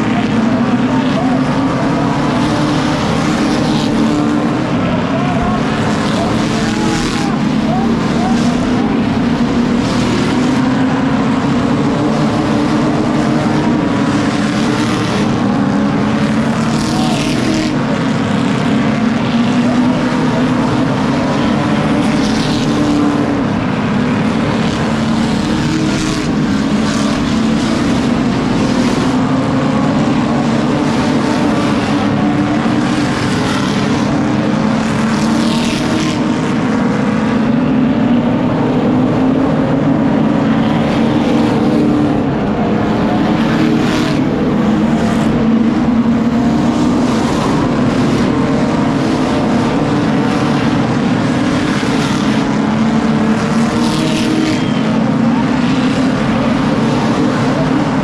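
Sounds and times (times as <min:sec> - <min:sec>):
cars sweeping past: 0:00.0 - 0:58.0
race car engines: 0:00.0 - 0:58.0.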